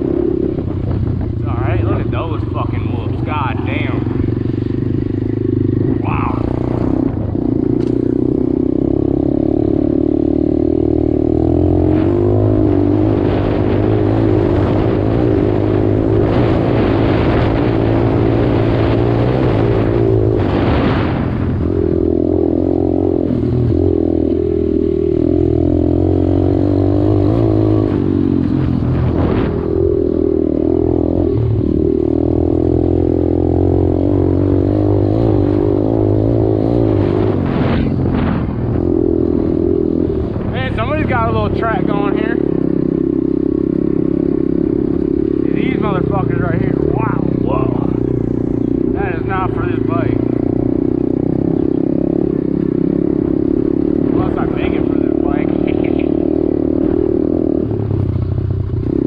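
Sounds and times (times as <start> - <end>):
dirt bike engine riding: 0.0 - 59.0.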